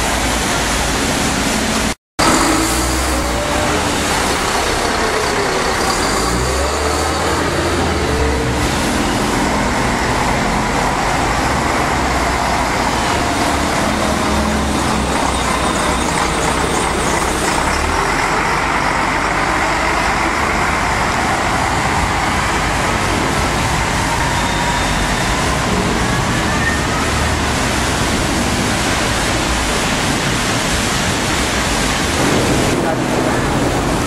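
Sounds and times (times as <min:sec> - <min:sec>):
bus diesel engine: 0:00.0 - 0:34.0.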